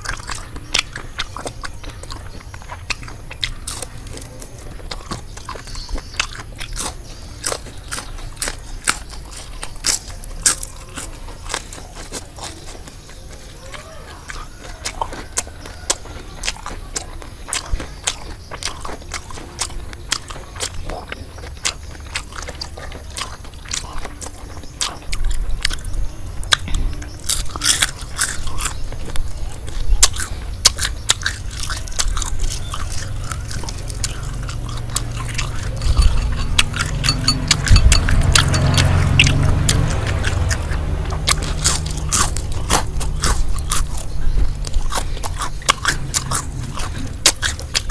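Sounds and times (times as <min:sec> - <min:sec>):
crunching and chewing: 0:00.0 - 0:47.9.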